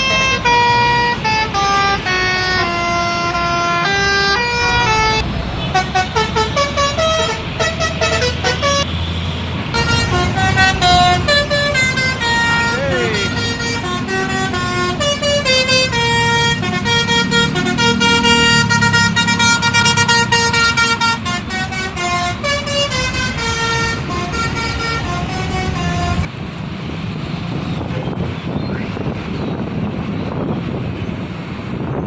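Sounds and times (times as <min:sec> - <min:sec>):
bus musical horn melody: 0:00.0 - 0:26.3
bus engine rumble: 0:00.0 - 0:32.0.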